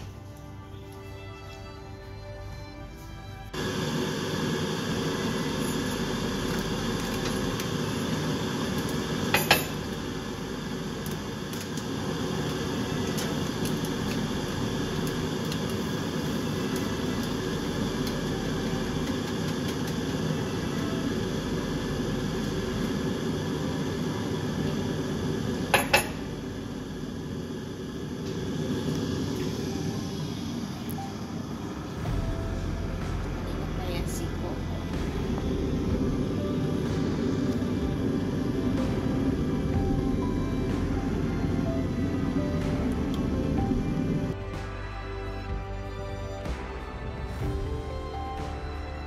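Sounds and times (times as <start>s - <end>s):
steady hum: 0.0s - 44.5s.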